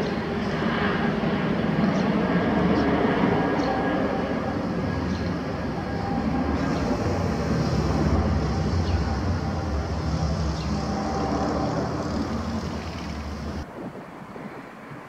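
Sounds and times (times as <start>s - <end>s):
jet airliner rumbling overhead: 0.0s - 15.0s.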